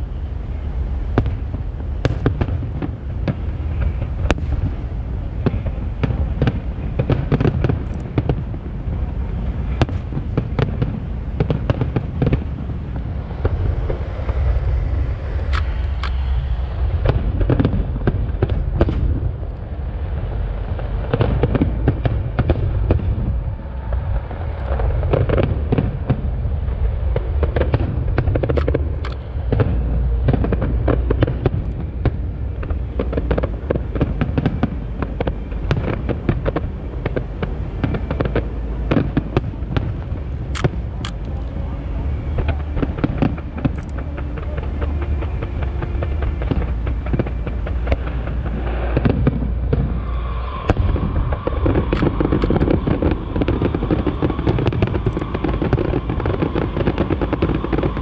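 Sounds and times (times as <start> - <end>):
low rumble: 0.0 - 58.0.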